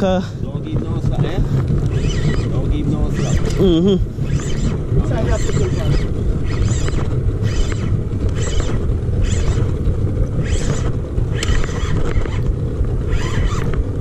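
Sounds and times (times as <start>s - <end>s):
boat motor rumble: 0.0s - 14.0s
wind on microphone: 0.0s - 14.0s.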